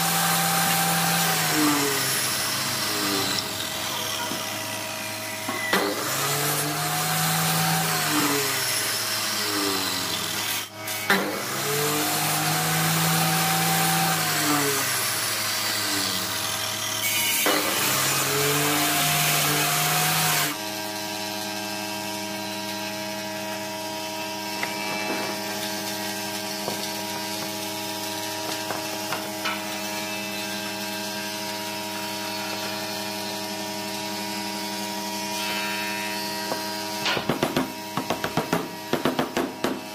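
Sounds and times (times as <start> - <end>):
miter saw cutting wood: 0.0 - 39.9.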